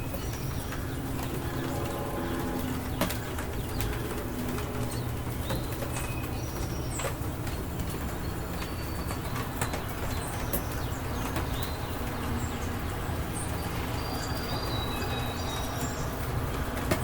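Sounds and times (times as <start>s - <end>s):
raindrops ticking: 0.0s - 17.0s
steady rain falling: 0.0s - 17.0s.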